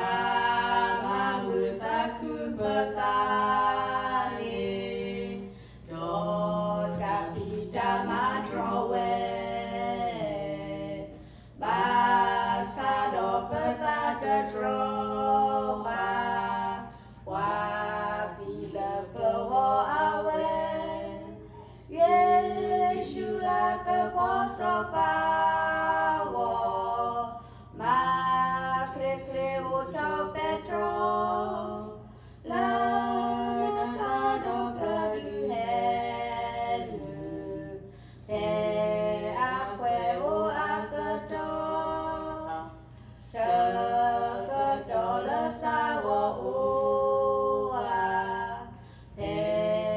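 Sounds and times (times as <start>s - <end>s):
women singing a hymn: 0.0s - 49.9s.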